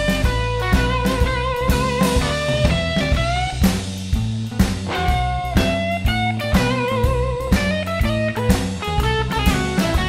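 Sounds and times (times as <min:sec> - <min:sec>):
rock music with electric guitar: 0:00.0 - 0:10.0.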